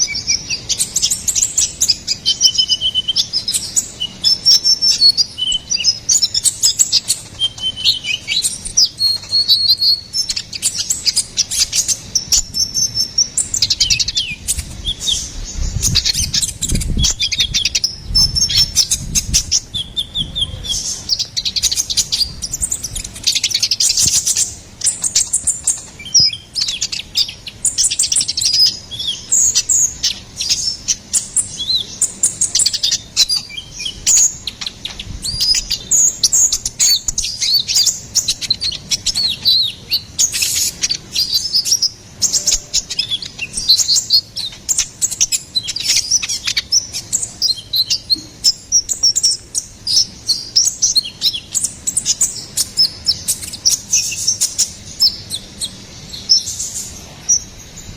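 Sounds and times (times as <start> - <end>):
sunbird singing high chirps: 0.0 - 57.9.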